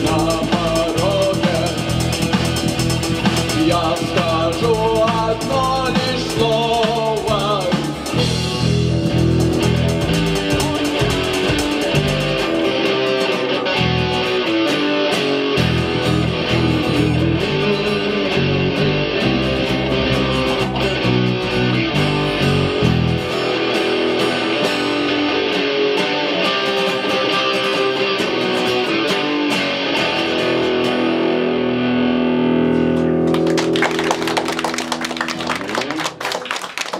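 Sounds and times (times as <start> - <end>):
bass and drums: 0.0 - 36.3
guitars: 0.0 - 36.9.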